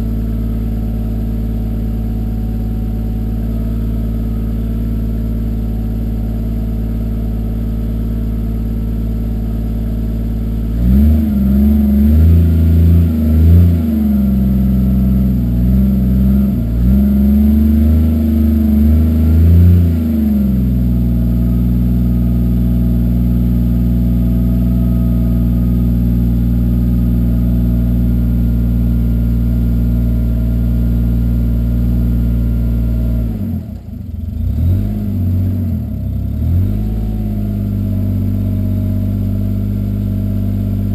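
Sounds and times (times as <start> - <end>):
turbo engine idling and revving: 0.0 - 40.9.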